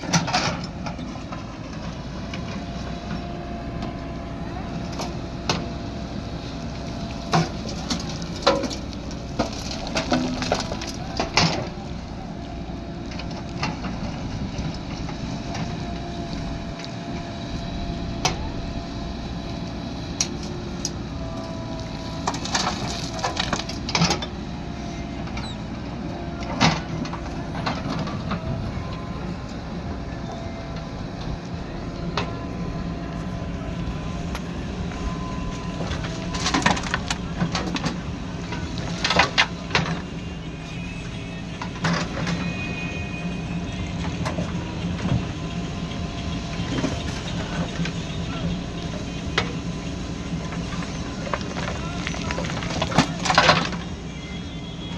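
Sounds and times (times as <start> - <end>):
diesel backhoe engine running: 0.0 - 54.9.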